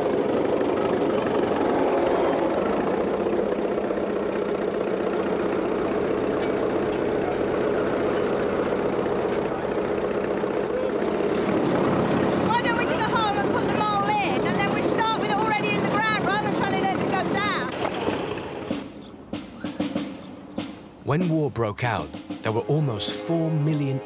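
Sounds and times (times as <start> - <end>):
tractor engine running under load: 0.0 - 20.6.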